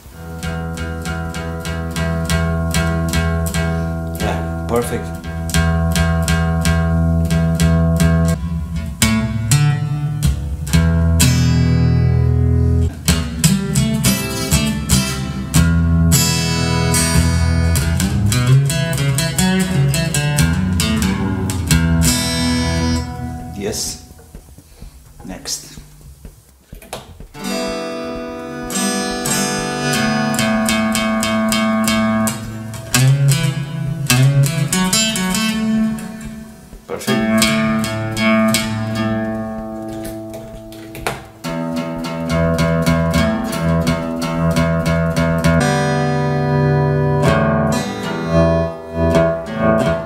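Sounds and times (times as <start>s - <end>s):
strummed acoustic guitar: 0.0s - 50.0s.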